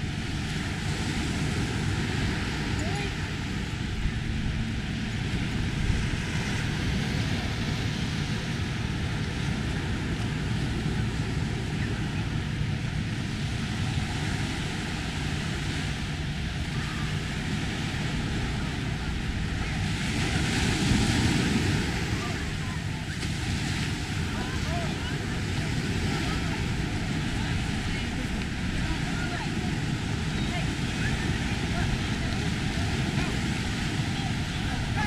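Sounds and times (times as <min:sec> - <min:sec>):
surf breaking on beach: 0:00.0 - 0:35.0
wind noise: 0:00.0 - 0:35.0.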